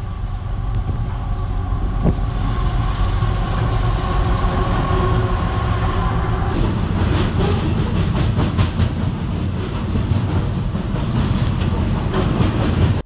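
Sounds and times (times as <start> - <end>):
train rumbling across bridge: 0.0 - 13.0.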